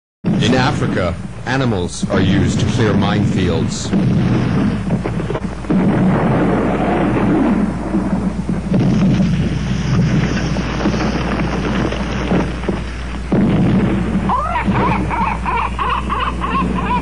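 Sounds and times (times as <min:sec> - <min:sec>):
explosion blast: 0:00.2 - 0:16.9
rolling rumble with crackling: 0:00.3 - 0:17.0.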